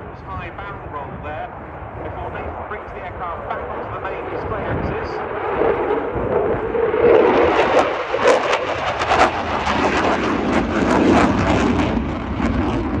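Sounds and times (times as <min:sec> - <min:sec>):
jet engines roaring and crackling: 0:00.0 - 0:13.0.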